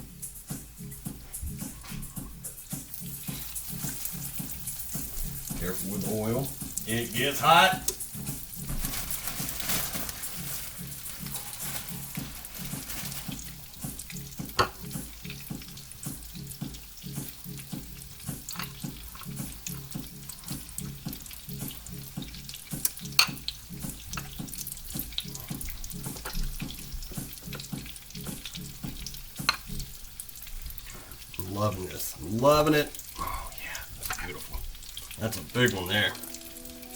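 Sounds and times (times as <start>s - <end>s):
chicken frying in hot oil: 0.0s - 36.9s
oil popping: 0.4s - 36.9s.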